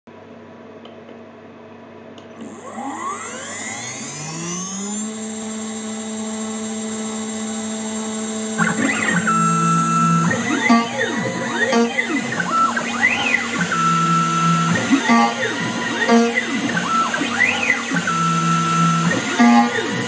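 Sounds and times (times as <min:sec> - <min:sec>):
mill spindle whine: 0:02.3 - 0:20.0.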